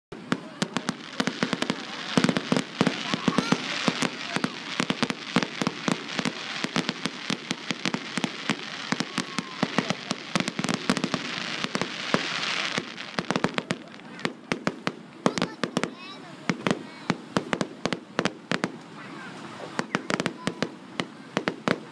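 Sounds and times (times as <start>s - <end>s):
hissing crackle: 0.1s - 18.9s
fireworks bangs: 0.1s - 21.9s
fireworks crackle: 0.1s - 21.9s.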